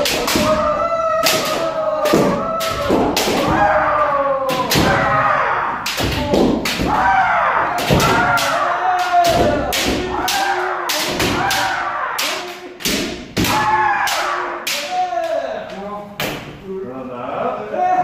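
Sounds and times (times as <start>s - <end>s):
fencers shouting: 0.0s - 15.6s.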